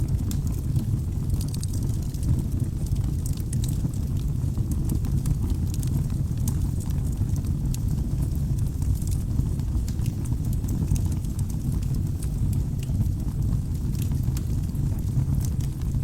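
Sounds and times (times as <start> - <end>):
fire crackles and pops: 0.0 - 16.0
fire flames rumbling: 0.0 - 16.0.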